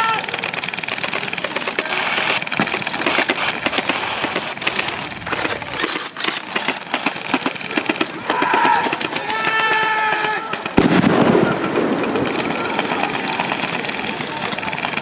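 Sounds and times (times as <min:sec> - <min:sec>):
airsoft guns firing: 0:00.0 - 0:15.0.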